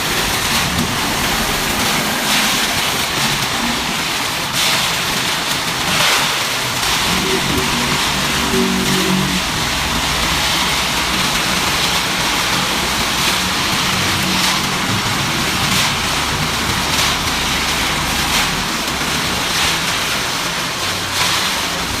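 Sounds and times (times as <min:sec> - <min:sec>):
concrete mixer engine: 0:00.0 - 0:22.0
steady rushing hiss: 0:00.0 - 0:22.0.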